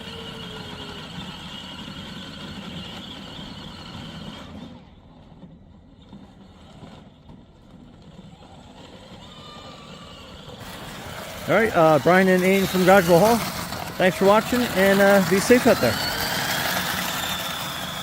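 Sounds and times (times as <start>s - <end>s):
electric motors whining: 0.0s - 4.8s, 8.2s - 18.0s.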